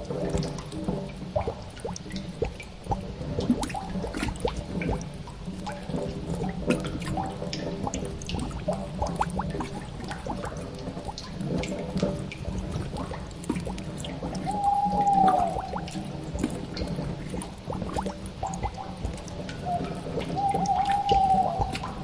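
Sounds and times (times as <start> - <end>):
low steady drone: 0.0 - 22.0
water dripping into pools: 0.0 - 22.0.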